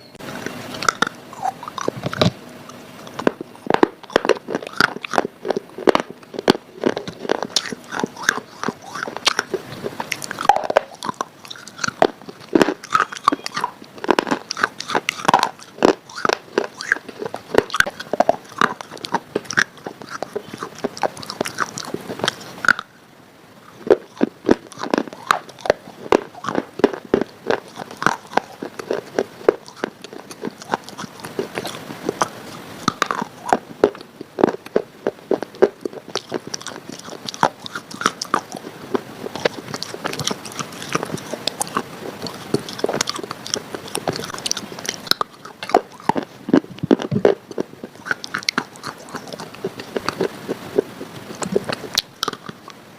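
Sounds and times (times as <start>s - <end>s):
person chewing crunchy food: 0.2s - 22.9s, 23.6s - 52.8s.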